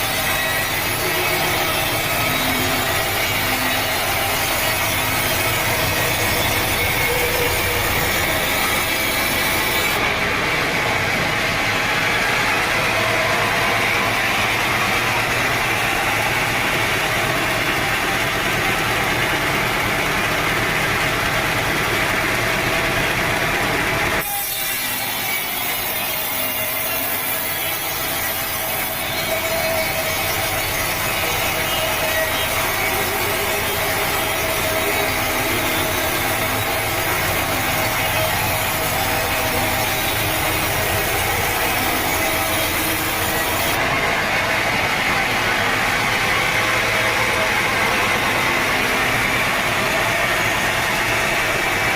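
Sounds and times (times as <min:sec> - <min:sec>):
sawmill blade sawing log: 0:00.0 - 0:51.9.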